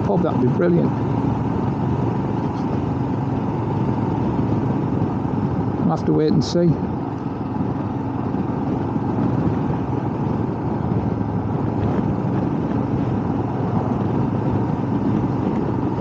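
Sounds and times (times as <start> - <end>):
motorcycle engine drone: 0.0 - 16.0
road and wind noise: 0.0 - 16.0.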